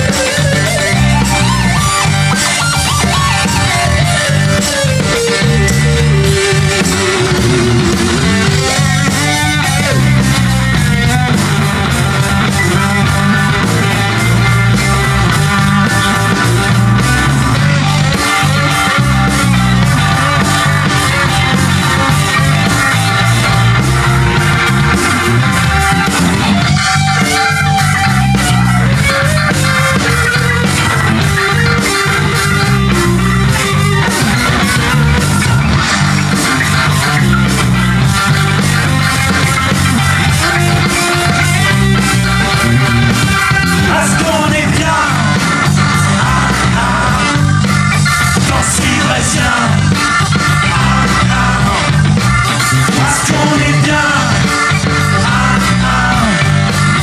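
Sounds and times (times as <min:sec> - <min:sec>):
rock band playing loudly: 0:00.0 - 0:57.0.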